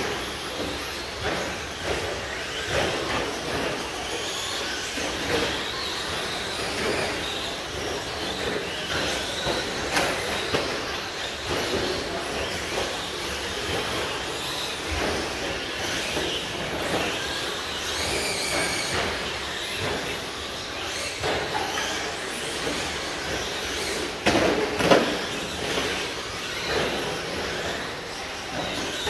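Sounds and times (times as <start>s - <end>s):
clatter of sharp knocks: 0.0s - 29.0s
rc truck motors whining: 0.0s - 29.0s.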